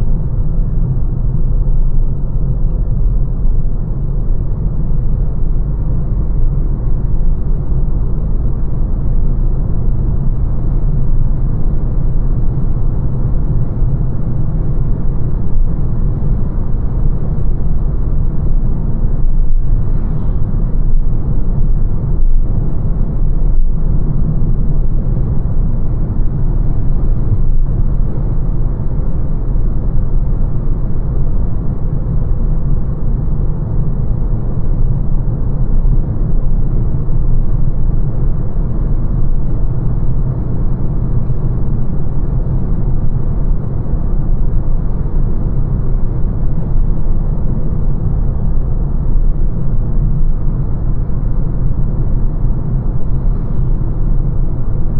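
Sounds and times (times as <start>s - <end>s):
road and tyre rumble inside car: 0.0s - 54.9s.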